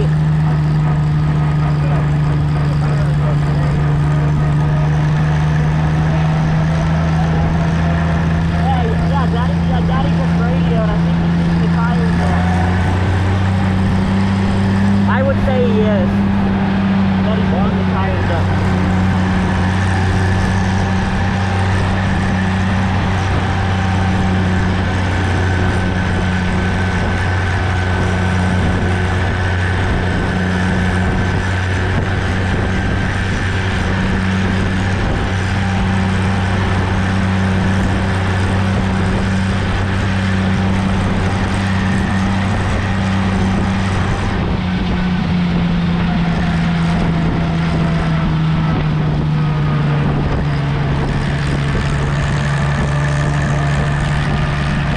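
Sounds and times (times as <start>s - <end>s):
tractor engine running: 0.0s - 54.9s
wind on microphone: 0.0s - 54.9s.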